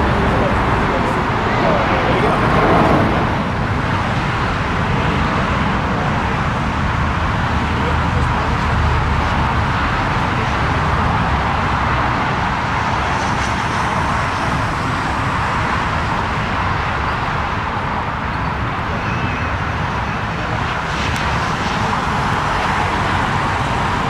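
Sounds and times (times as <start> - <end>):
jet airliner engines roaring: 0.0 - 24.0.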